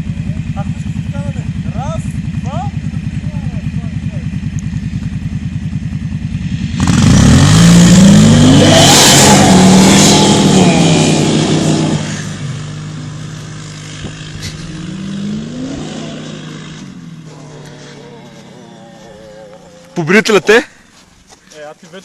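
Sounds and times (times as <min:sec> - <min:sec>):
car engine revving: 0:00.0 - 0:20.4
atv engine revving: 0:00.0 - 0:20.8.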